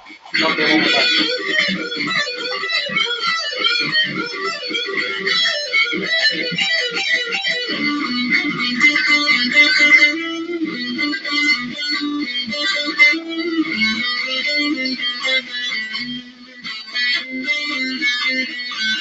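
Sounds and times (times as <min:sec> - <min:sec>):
electric guitar shredding: 0:00.0 - 0:19.0.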